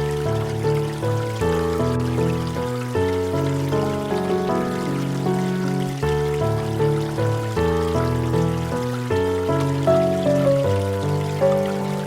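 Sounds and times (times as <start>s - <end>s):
gentle piano chords: 0.0s - 12.0s
mountain stream babbling: 0.0s - 12.0s.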